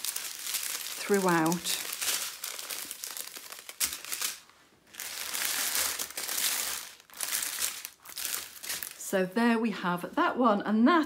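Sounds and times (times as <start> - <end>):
plastic bags crinkling: 0.0 - 9.1.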